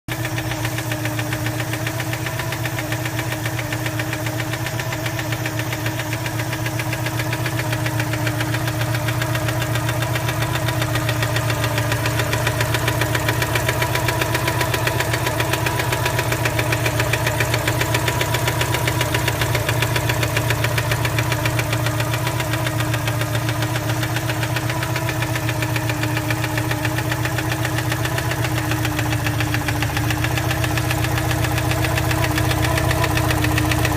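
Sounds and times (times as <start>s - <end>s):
engine idling: 0.1s - 33.9s
engine knocking: 0.1s - 33.9s.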